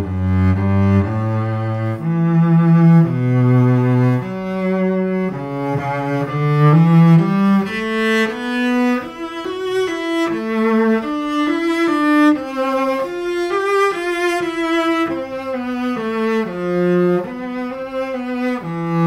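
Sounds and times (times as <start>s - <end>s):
bowed cello melody: 0.0s - 19.0s.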